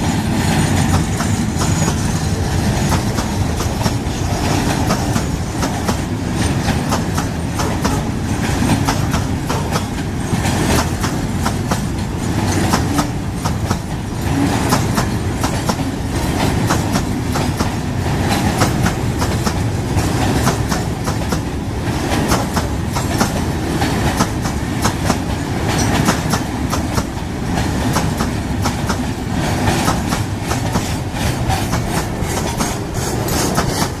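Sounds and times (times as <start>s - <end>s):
freight train wheels clattering: 0.0s - 34.0s.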